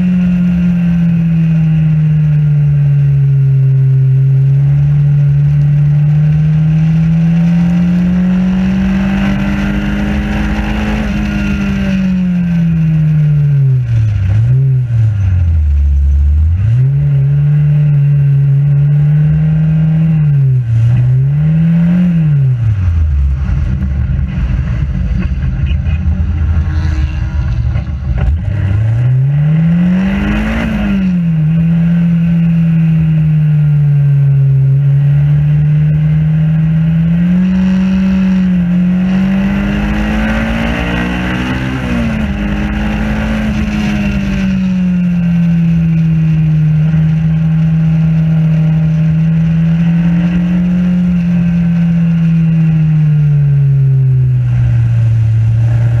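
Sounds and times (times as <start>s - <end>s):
racing car engine revving: 0.0s - 56.0s
wind and road noise: 0.0s - 56.0s.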